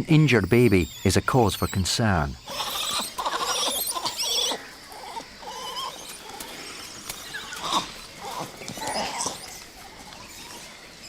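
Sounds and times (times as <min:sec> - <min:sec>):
monkeys calling: 0:00.0 - 0:11.0.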